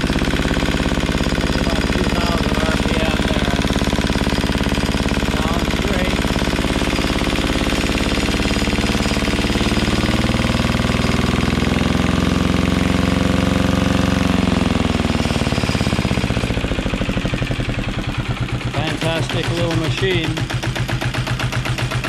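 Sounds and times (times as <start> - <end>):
marine diesel engine running: 0.0 - 22.0.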